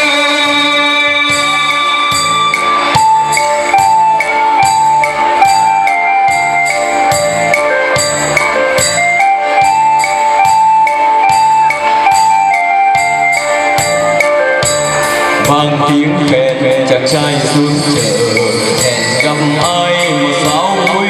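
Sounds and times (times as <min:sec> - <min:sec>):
steady beat: 0:00.0 - 0:21.0.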